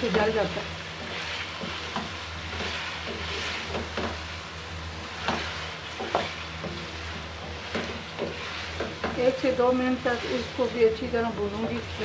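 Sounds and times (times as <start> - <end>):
food sizzling in hot oil: 0.0 - 12.0
spatula scraping a metal pan: 0.9 - 4.2, 5.2 - 12.0.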